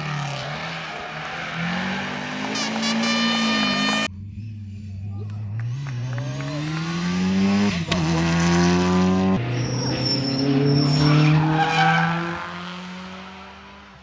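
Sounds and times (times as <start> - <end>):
rally car accelerating hard: 0.0 - 14.0.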